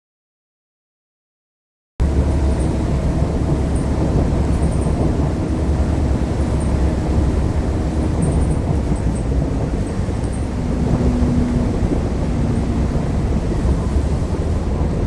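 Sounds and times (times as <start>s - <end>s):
bus engine rumbling: 2.0s - 15.0s.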